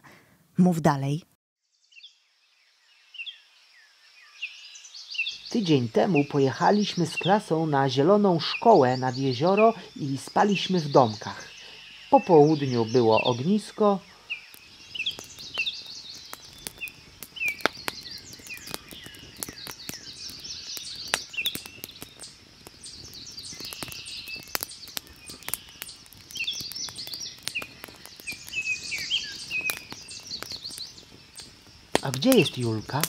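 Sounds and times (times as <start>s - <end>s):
small birds chirping: 1.0s - 33.0s
campfire crackling: 4.4s - 33.0s.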